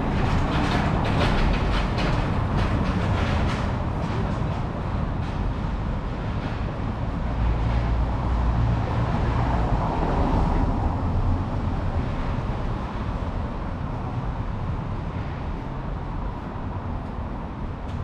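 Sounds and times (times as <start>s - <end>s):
passing traffic rumble: 0.0s - 18.0s.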